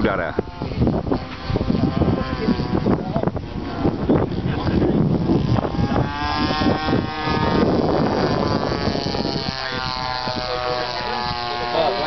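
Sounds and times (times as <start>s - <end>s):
model plane engine droning: 0.0s - 12.0s
wind rumbling on microphone: 0.0s - 12.0s.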